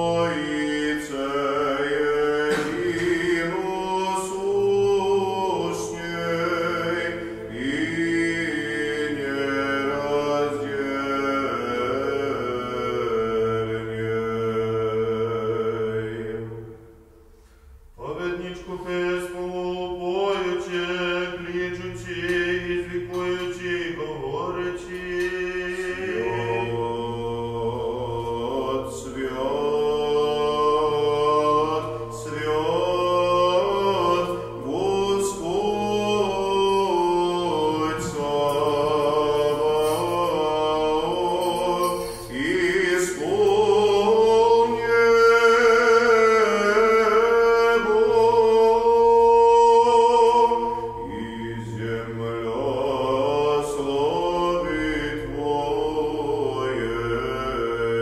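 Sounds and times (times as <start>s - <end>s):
male voice singing chant melody: 0.0s - 16.9s, 18.0s - 58.0s
male voice singing low drone: 0.0s - 16.9s, 18.0s - 58.0s.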